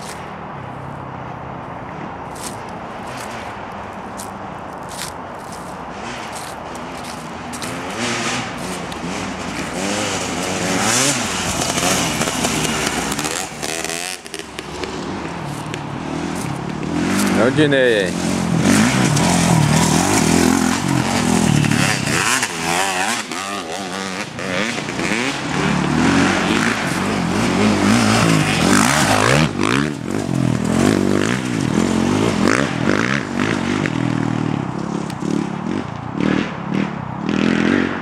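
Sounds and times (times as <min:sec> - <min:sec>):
dirt bike engine revving: 0:04.9 - 0:38.0.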